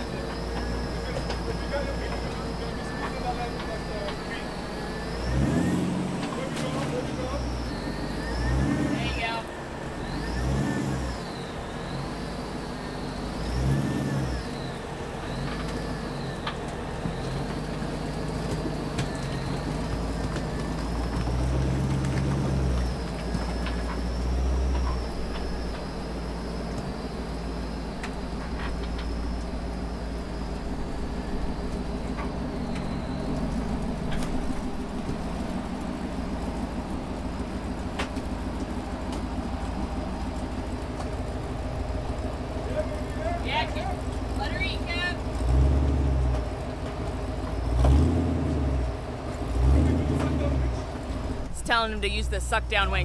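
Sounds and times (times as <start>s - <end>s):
high whine: 0.0s - 45.2s
buggy engine revving: 0.0s - 53.0s.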